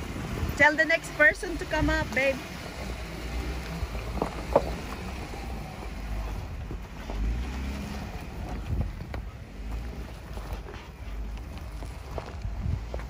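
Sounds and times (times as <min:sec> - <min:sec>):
car engine running low: 0:00.0 - 0:13.0
wind buffeting microphone: 0:00.0 - 0:13.0.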